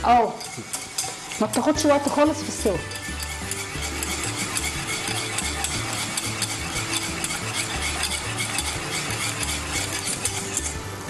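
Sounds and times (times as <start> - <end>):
wire whisk scraping metal saucepan: 0.0 - 11.0.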